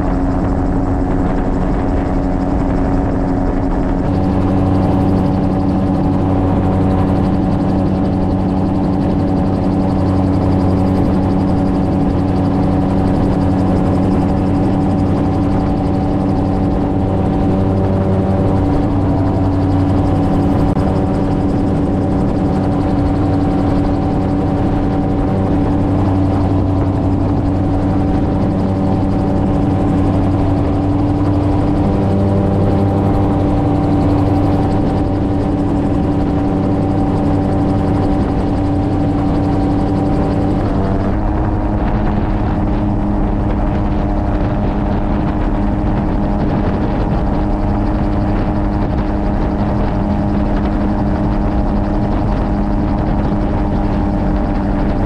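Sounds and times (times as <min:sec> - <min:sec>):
gyrocopter engine and propeller droning: 0:00.0 - 0:55.0.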